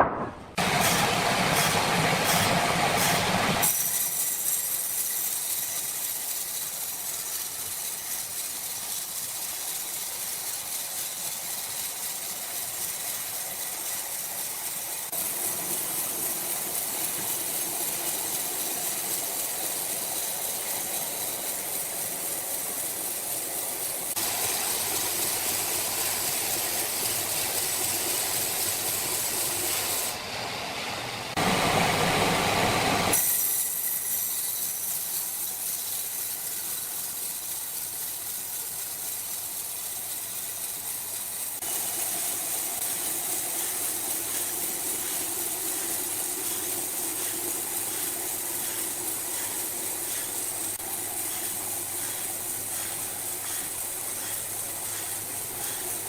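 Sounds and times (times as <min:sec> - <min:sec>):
sawmill machinery hissing: 0:00.6 - 0:56.0.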